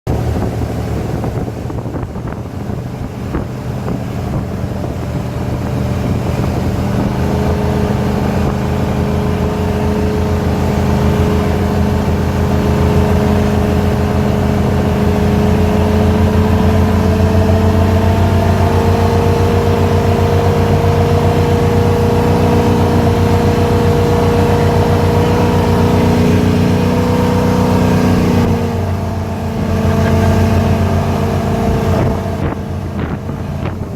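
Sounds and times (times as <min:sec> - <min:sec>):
motorboat engine running: 0:00.1 - 0:33.9.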